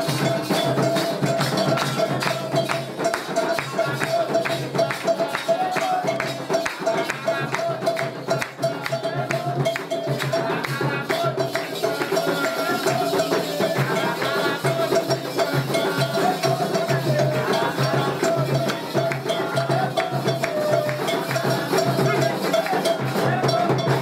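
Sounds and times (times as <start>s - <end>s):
fast steady drumming: 0.0s - 24.0s
voices singing: 0.0s - 24.0s.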